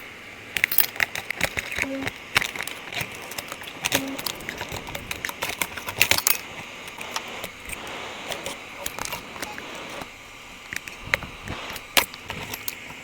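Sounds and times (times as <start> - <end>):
small tools clicking and tapping: 0.6 - 13.0.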